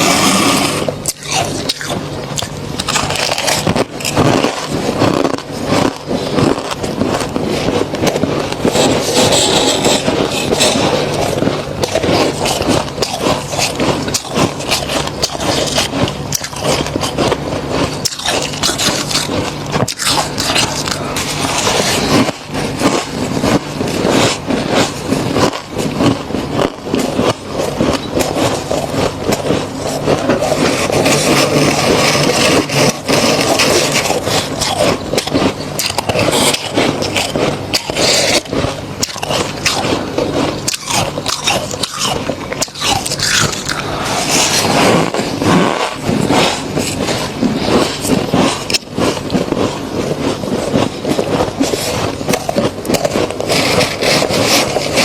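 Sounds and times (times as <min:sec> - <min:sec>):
faint low hum: 0:00.0 - 0:55.0
frost being scraped: 0:00.0 - 0:55.0.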